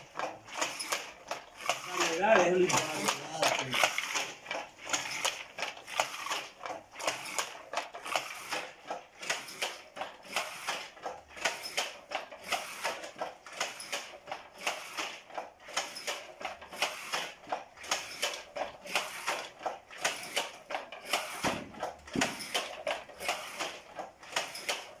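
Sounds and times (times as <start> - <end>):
wooden loom clacking: 0.0 - 25.0.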